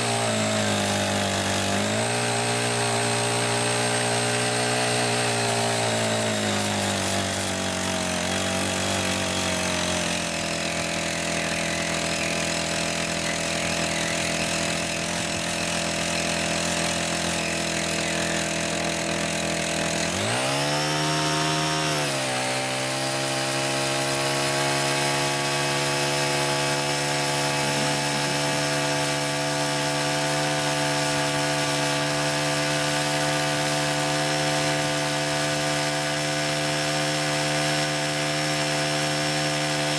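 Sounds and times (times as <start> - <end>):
small tiller engine running: 0.0 - 39.9.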